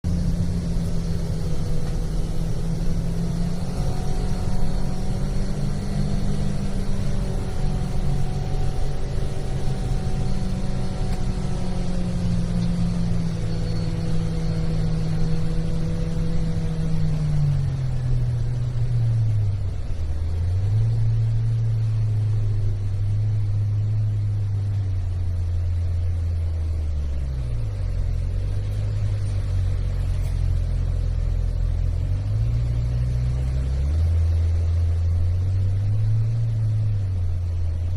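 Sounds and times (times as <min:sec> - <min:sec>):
vehicle engine running inside cab: 0:00.0 - 0:37.9.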